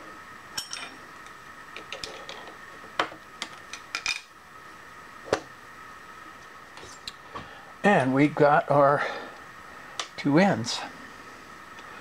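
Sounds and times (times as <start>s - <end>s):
faint machine whine: 0.0s - 12.0s.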